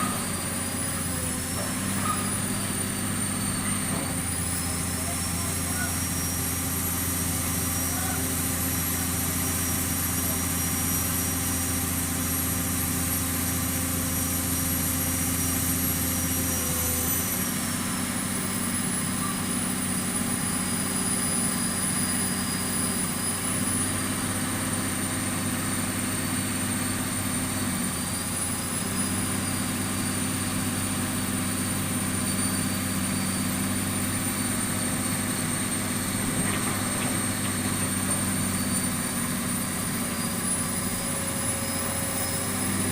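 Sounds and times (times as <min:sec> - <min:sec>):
piling rig engine hum: 0:00.0 - 0:42.9.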